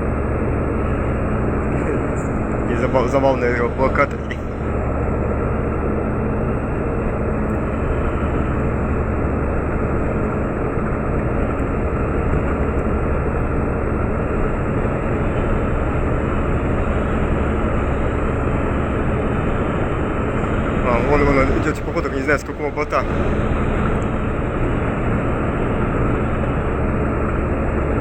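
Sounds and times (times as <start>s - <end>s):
diesel engines droning: 0.0s - 28.0s.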